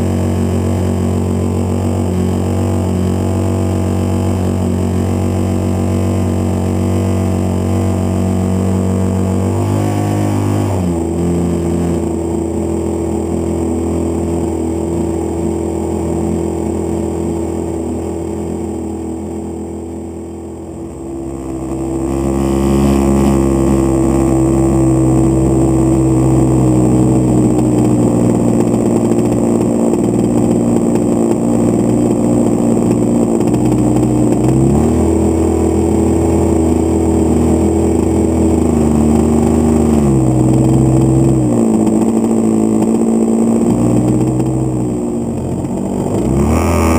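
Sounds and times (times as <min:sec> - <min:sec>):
model plane engine running: 0:00.0 - 0:46.9.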